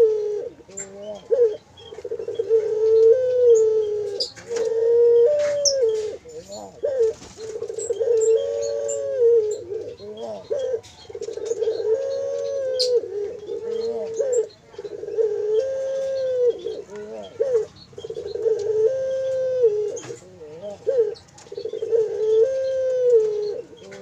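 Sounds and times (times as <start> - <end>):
dove chicks whining calls: 0.0 - 24.0.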